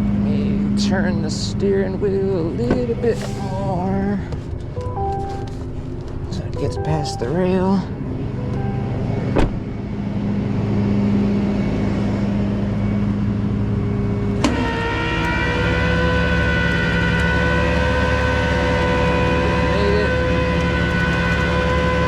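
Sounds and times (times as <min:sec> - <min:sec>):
hydraulic whine: 0:00.0 - 0:22.0
tow truck engine idling: 0:00.0 - 0:22.0.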